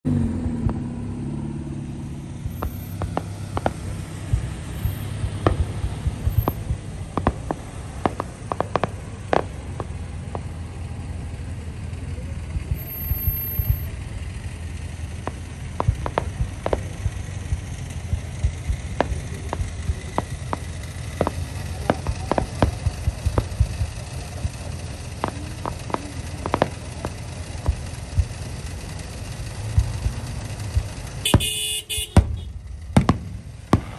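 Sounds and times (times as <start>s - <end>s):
traffic rumble: 0.0s - 33.9s
fireworks bangs and crackles: 0.1s - 33.9s.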